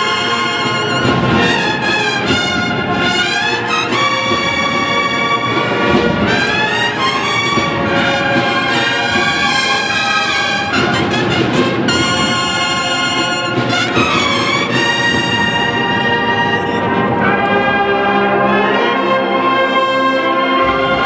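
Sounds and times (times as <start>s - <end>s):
steady drum accompaniment: 0.0s - 17.6s
cornets holding sustained chords: 0.0s - 21.0s.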